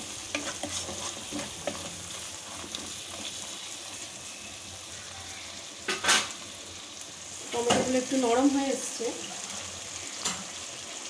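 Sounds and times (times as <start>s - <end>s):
tomatoes sizzling in a pan: 0.0s - 11.0s.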